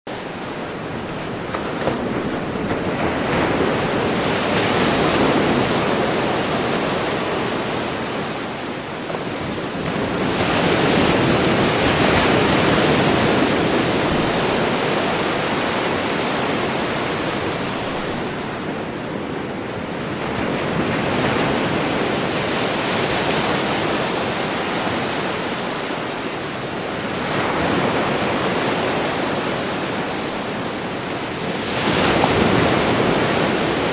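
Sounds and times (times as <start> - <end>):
sea waves breaking on shore: 0.1 - 33.9.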